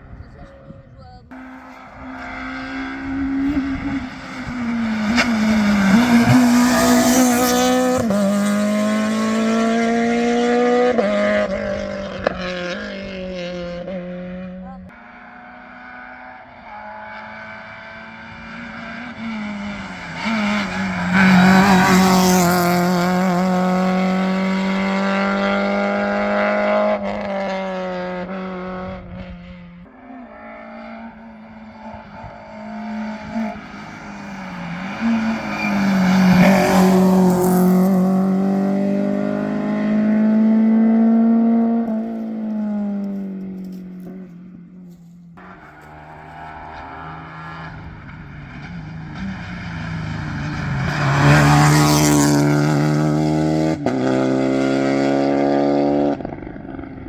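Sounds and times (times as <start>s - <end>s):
rally cars passing at speed: 1.3s - 57.0s.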